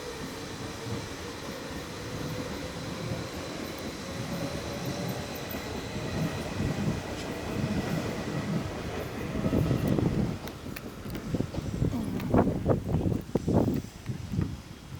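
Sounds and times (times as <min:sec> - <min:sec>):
metro train rumbling on rails: 0:00.0 - 0:14.9.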